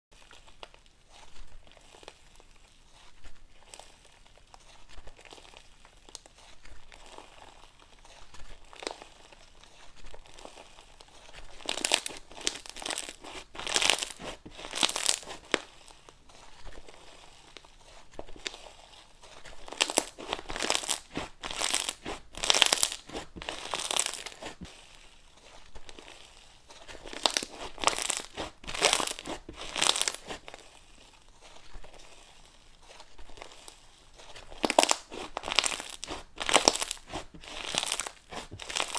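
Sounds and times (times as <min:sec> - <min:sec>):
slime crackling and popping: 0:03.7 - 0:38.9.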